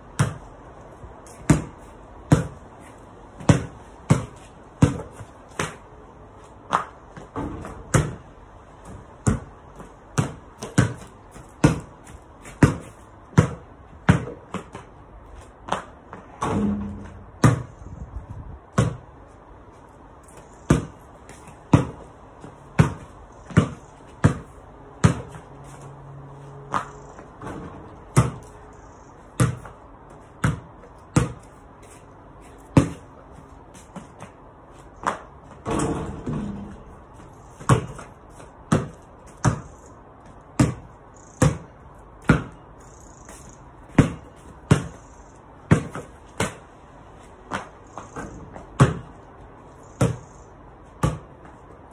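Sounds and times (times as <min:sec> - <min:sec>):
basketball bouncing on pavement: 0:00.0 - 0:51.9.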